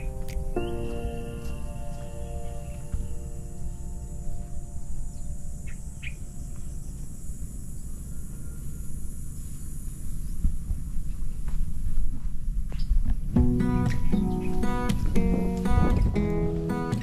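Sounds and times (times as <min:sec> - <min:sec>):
bird chirps: 0:00.0 - 0:10.5, 0:12.8 - 0:17.0
insects droning: 0:00.0 - 0:17.0
wind rumble on microphone: 0:02.0 - 0:17.0.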